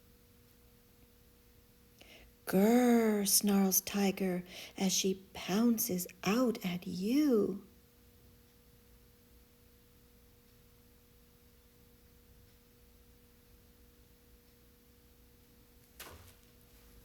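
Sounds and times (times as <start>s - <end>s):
faint two-tone low hum: 0.0s - 17.0s.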